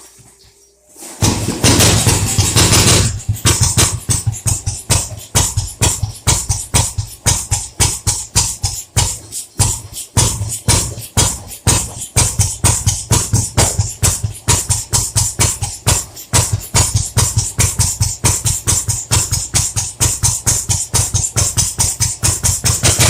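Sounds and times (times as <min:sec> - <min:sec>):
diesel engine knocking: 0:01.2 - 0:23.0.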